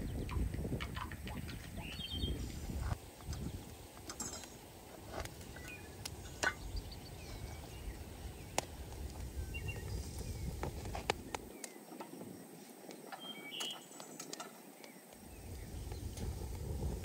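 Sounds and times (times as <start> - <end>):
wind on microphone: 0.0 - 13.6, 15.1 - 17.0
fire popping: 0.0 - 17.0
small birds chirping: 0.0 - 17.0
wood fire crackling: 0.0 - 17.0.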